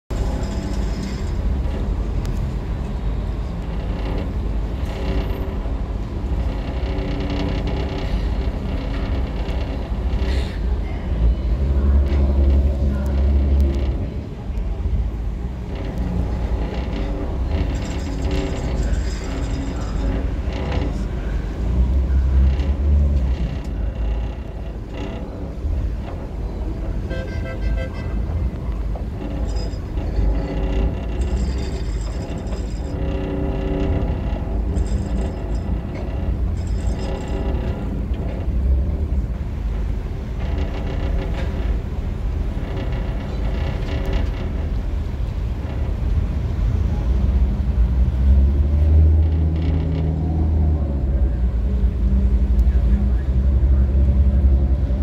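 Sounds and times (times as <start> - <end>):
ferry engines droning: 0.1 - 55.0.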